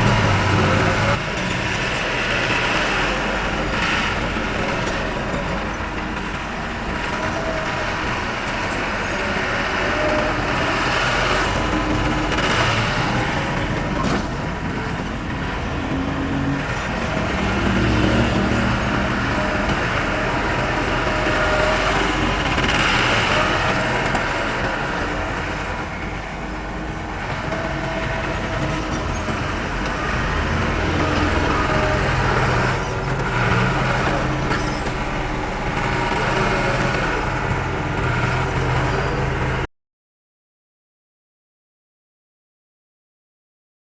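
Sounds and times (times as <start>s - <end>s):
heavy machinery diesel engines: 0.0s - 39.7s.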